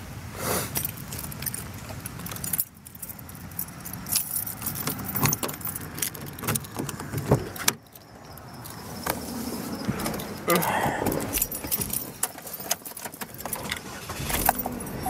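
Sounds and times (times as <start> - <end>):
keys jangling: 0.7 - 15.0.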